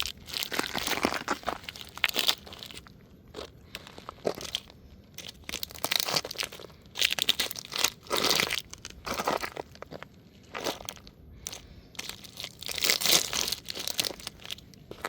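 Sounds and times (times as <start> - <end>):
toy car crunching underfoot: 0.0 - 15.0.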